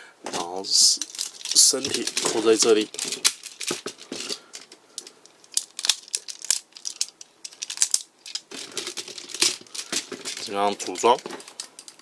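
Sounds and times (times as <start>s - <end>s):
plastic toy parts clicking: 1.0s - 12.0s.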